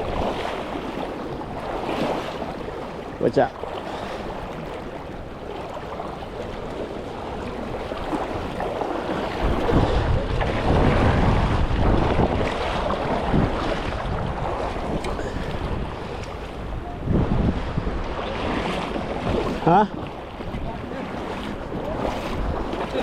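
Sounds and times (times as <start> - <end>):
rushing river water: 0.0 - 23.0
wind buffeting microphone: 0.0 - 23.0.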